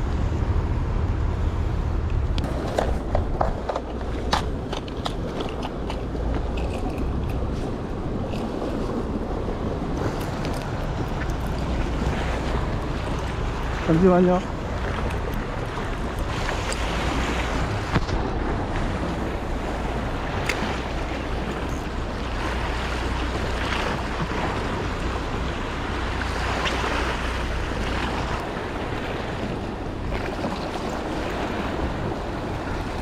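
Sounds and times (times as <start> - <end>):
wind on microphone: 0.0 - 33.0
waves breaking on rocks: 2.4 - 33.0.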